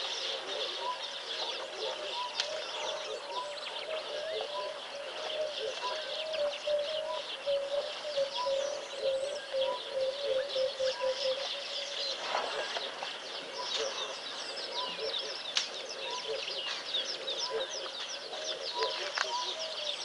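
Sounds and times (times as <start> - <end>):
bird repeating low note: 0.0 - 20.0.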